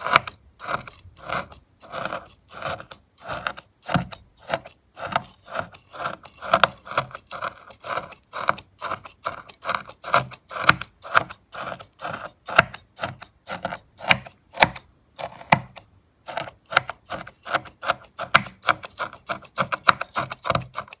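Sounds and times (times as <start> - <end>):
knife scraping soap: 0.0 - 21.0.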